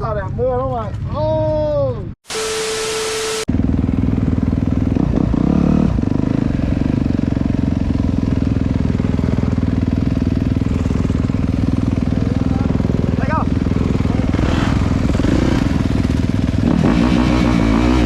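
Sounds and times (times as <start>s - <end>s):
dirt bike engine running: 2.3s - 18.0s.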